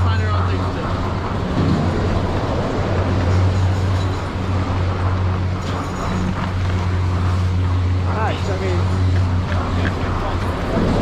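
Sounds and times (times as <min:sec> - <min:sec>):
chairlift hum and rumble: 0:00.0 - 0:11.0.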